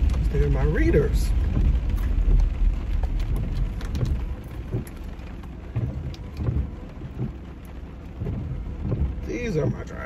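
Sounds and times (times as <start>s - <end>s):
low rumble: 0.0s - 10.0s
rain pattering on a car: 0.0s - 10.0s.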